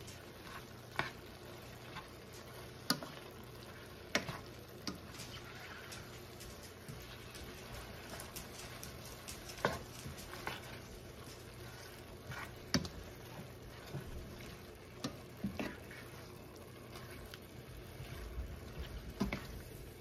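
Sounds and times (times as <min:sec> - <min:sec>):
meat sizzling: 0:00.0 - 0:20.0
spoon stirring in a skillet: 0:00.0 - 0:20.0.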